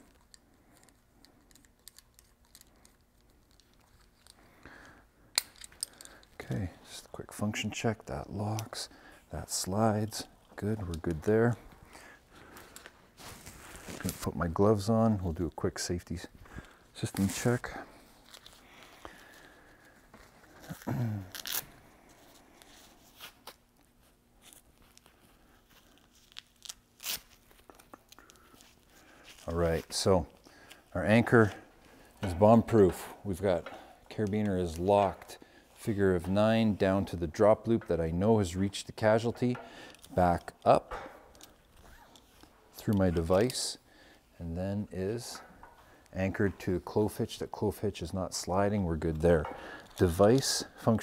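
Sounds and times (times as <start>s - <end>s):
gloves rustling: 0.0s - 51.0s.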